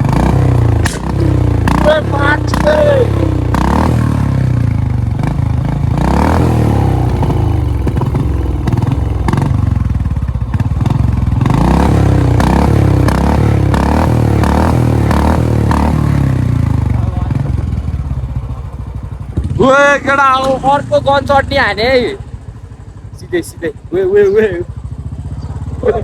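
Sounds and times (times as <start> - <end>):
sharp exhaust pops: 0.0 - 23.8
motorcycle engine revving: 0.0 - 26.0.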